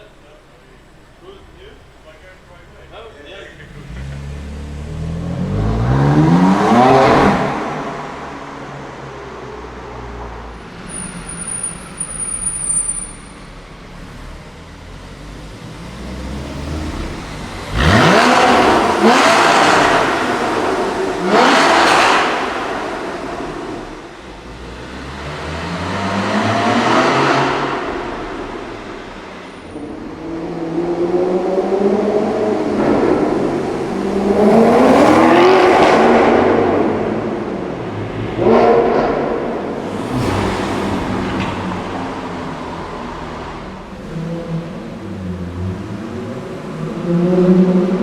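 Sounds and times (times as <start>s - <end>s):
car engines accelerating in tunnel: 0.0s - 48.0s.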